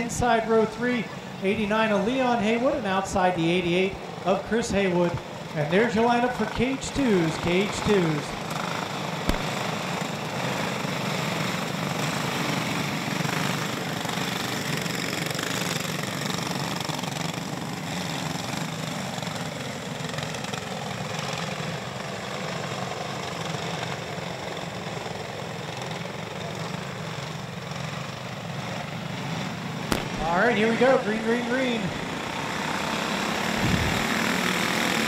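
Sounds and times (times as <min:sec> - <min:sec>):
go-kart engines buzzing: 0:00.0 - 0:35.0.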